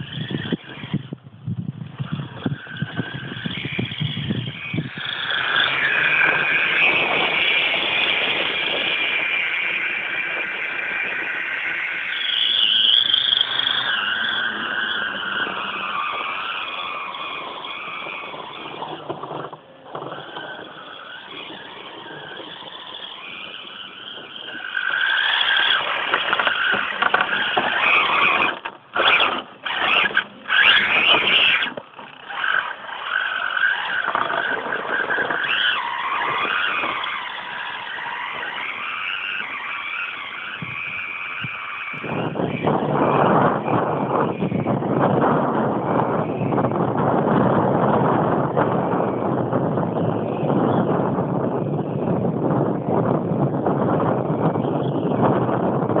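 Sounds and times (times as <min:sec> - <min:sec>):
electric motor and gearbox whining: 0:00.0 - 0:56.0.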